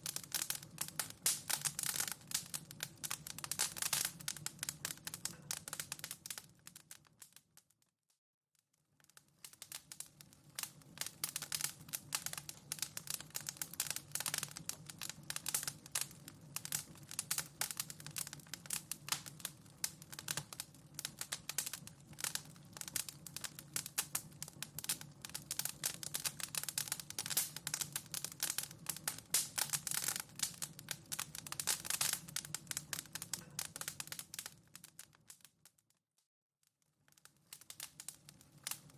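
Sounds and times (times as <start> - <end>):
wood fire crackling: 0.0 - 7.6, 8.9 - 35.8, 37.0 - 38.9.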